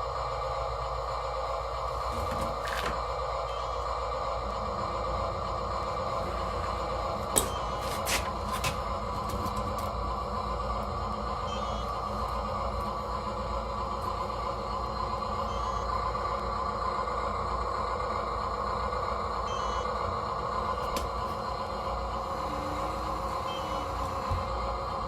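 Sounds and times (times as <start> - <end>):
small electric motors whining: 0.1 - 25.0.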